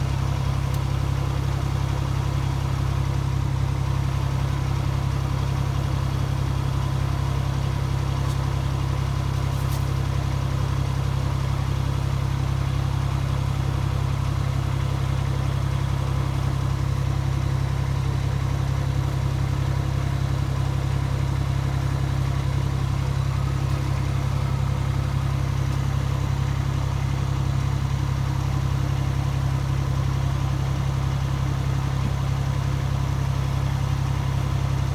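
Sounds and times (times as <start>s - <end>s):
locomotive engine idling: 0.0s - 34.9s.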